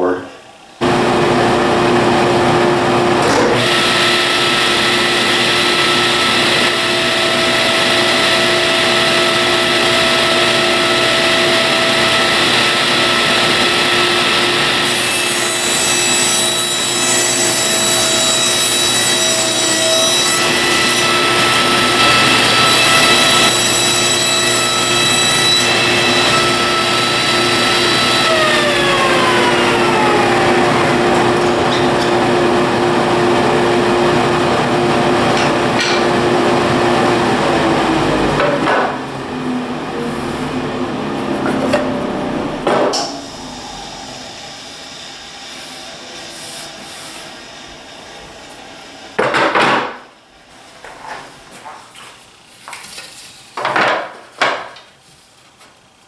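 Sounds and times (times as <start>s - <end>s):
power saw whining down: 0.8s - 46.2s.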